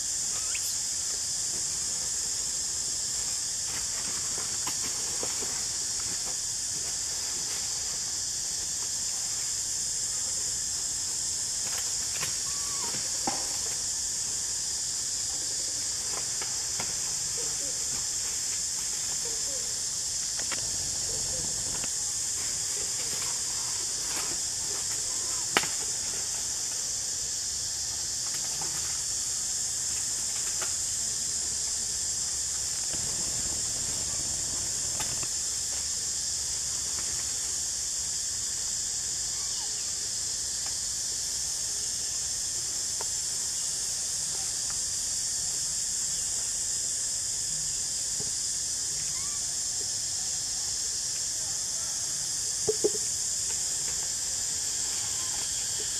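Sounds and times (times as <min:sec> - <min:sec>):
steady high-pitched hiss: 0:00.0 - 0:55.9.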